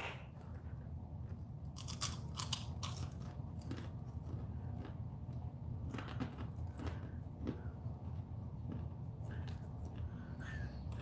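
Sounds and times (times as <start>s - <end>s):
person chewing crunchy insect: 1.6s - 11.0s.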